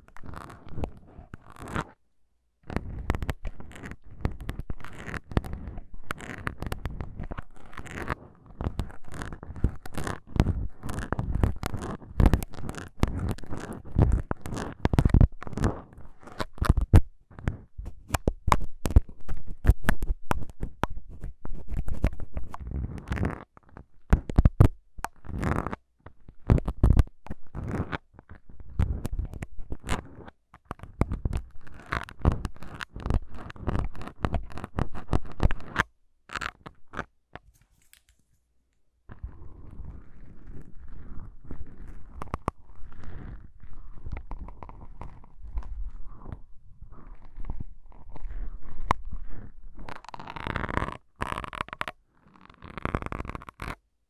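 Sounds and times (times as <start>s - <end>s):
syringes scratching on foam windscreen: 0.1s - 2.0s, 2.6s - 37.0s, 39.1s - 53.8s.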